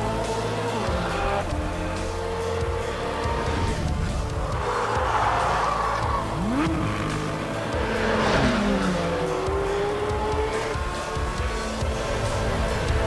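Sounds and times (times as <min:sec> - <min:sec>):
car engine running hard: 0:00.0 - 0:13.0
music: 0:00.0 - 0:13.0.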